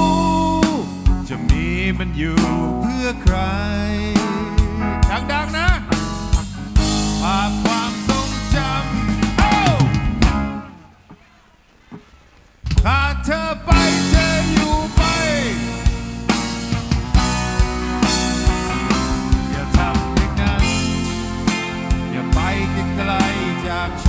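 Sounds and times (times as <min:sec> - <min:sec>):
man singing: 0:00.0 - 0:10.2, 0:12.7 - 0:16.0, 0:18.0 - 0:24.0
drum kit: 0:00.0 - 0:10.8, 0:11.9 - 0:24.0
keyboard: 0:00.0 - 0:11.0, 0:12.7 - 0:24.0.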